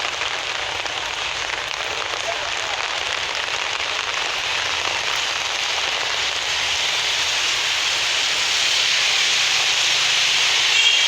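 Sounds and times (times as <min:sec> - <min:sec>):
falling rain hiss: 0:00.0 - 0:11.0.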